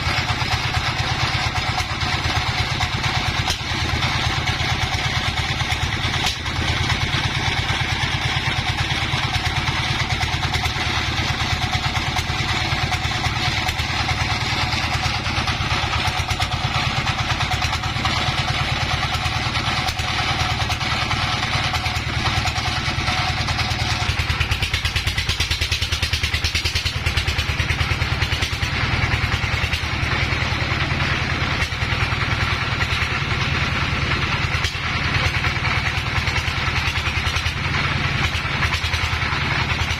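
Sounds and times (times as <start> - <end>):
sawmill engine pulsing: 0.0 - 39.9.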